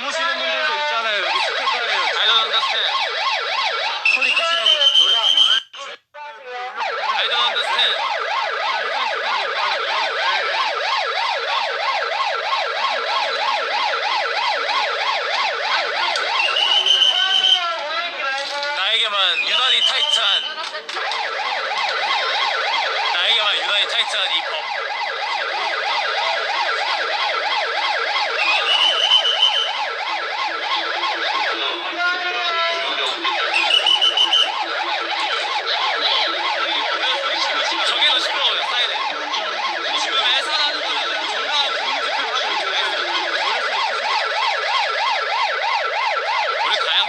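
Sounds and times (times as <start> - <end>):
police siren yelping: 0.0 - 47.0.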